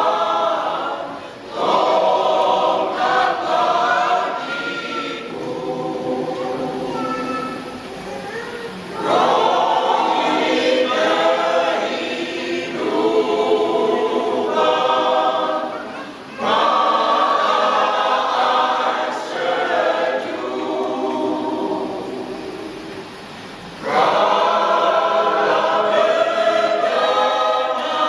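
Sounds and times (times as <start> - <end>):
church choir singing: 0.0 - 7.9, 9.0 - 28.0.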